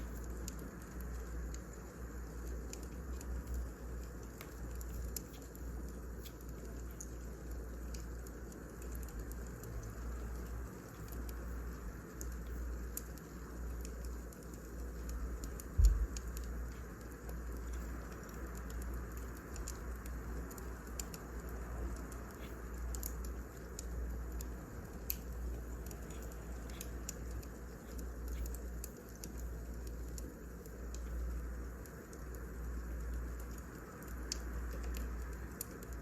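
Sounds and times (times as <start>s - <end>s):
firewood crackling: 0.0s - 36.0s.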